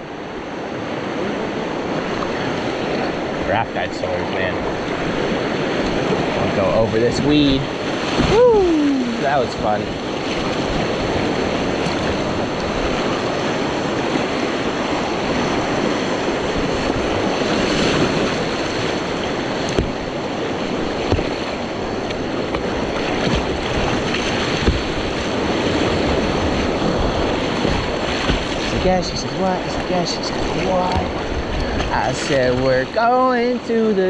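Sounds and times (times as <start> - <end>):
creek rapids rushing: 0.0 - 33.3.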